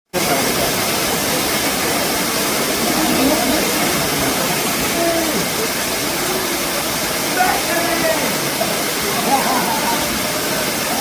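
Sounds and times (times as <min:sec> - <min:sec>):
faint voices: 0:00.2 - 0:11.0
waterfall roaring: 0:00.2 - 0:11.0.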